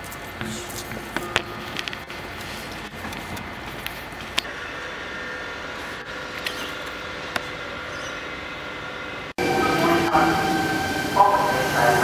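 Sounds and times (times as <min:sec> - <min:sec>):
steady background hum: 0:00.0 - 0:12.0
electric train passing: 0:01.0 - 0:12.0.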